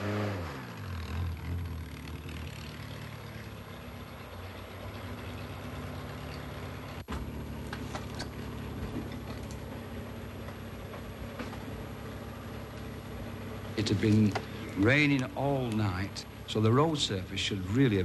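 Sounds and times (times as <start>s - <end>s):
car engine idling: 0.6s - 18.0s.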